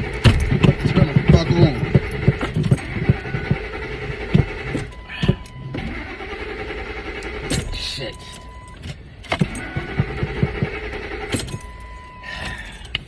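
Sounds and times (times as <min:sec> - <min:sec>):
truck engine cranking: 0:00.0 - 0:13.0.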